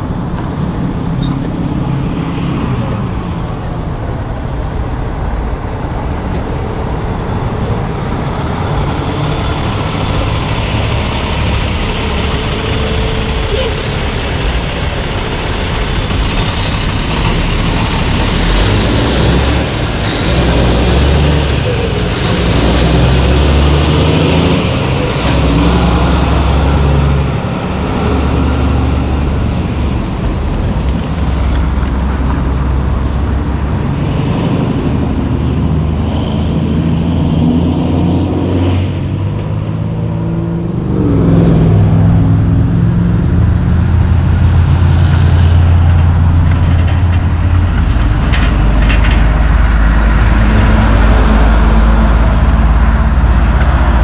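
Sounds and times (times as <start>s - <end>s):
diesel trucks driving past: 0.0s - 54.0s
truck accelerating: 0.0s - 54.0s
tyre and traffic noise: 0.0s - 54.0s.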